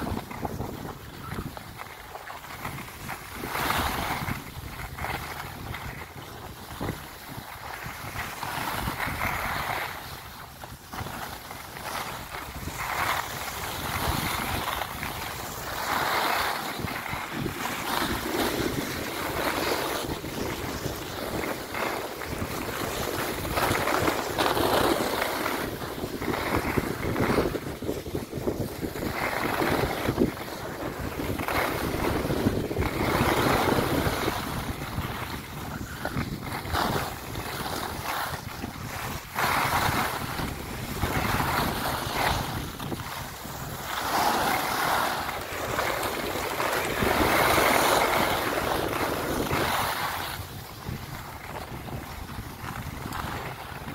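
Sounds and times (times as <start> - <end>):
skis scraping on snow: 0.0 - 53.9
wind rushing over microphone: 0.0 - 53.9.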